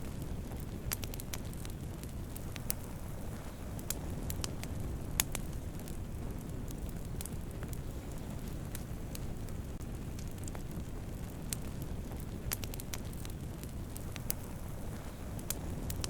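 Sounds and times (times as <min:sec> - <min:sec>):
campfire flames rumbling: 0:00.0 - 0:16.0
fire crackling and popping: 0:00.0 - 0:16.0.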